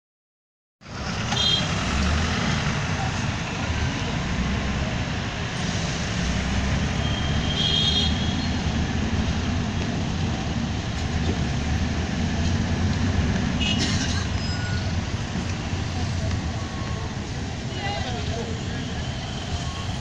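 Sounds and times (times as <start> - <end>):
traffic engines rumbling: 0.8 - 20.0.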